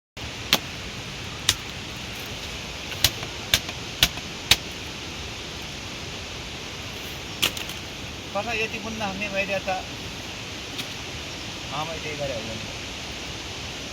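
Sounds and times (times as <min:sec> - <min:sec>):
heavy rain hissing: 0:00.2 - 0:13.9.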